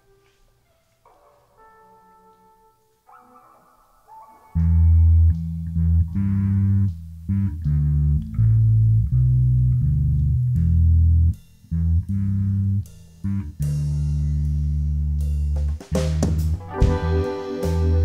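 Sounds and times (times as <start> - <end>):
electric bass guitar riff: 3.1 - 18.0.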